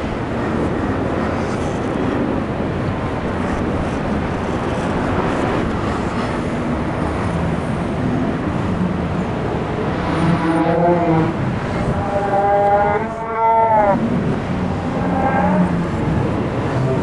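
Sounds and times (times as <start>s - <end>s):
constant low rumble: 0.0s - 17.0s.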